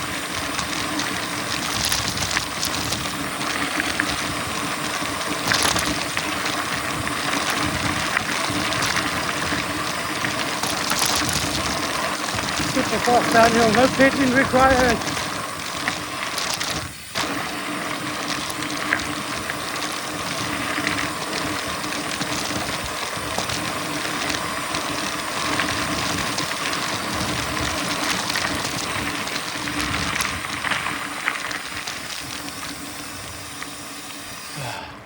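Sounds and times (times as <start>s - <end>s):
tyres rolling on dirt: 0.0s - 34.4s
faint steady hum: 0.0s - 35.0s.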